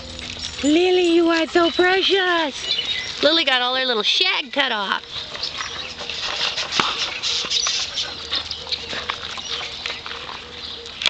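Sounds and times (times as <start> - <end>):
dogs paws pattering and rustling: 0.0 - 11.0.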